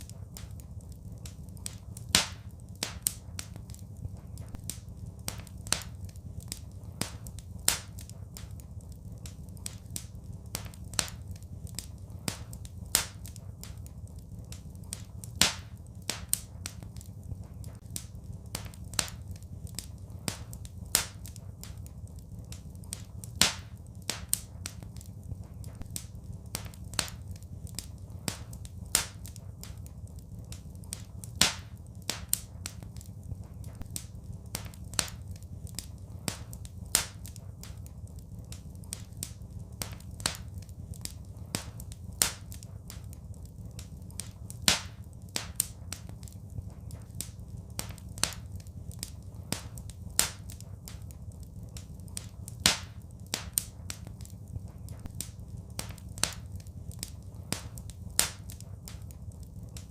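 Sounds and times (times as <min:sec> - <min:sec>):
low fire rumble: 0:00.0 - 0:59.9
wood fire crackling: 0:00.0 - 0:59.9.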